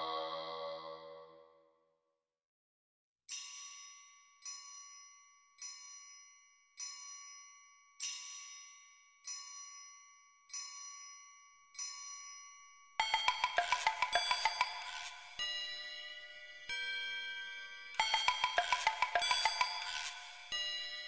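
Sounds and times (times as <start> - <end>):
small metal bell ringing: 3.3 - 17.2, 17.9 - 21.0.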